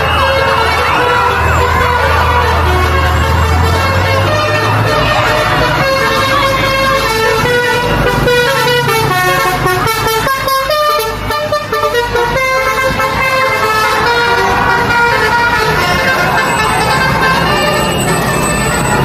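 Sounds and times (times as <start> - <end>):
multi-tone musical horn: 0.0 - 19.0.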